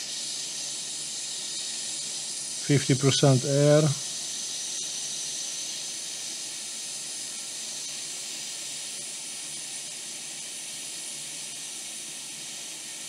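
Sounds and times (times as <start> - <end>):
hot air station hissing: 0.0 - 13.0.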